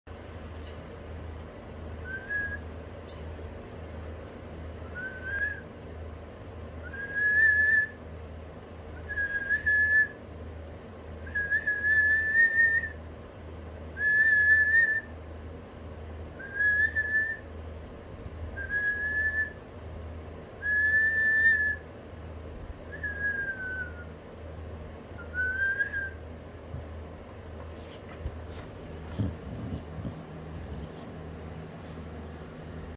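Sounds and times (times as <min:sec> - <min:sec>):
steady low hum: 0:00.1 - 0:32.9.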